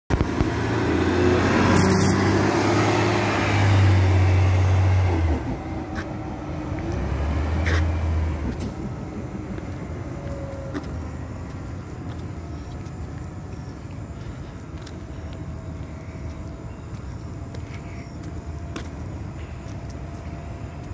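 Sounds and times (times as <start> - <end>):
bus engine pulling away: 0.1 - 20.9.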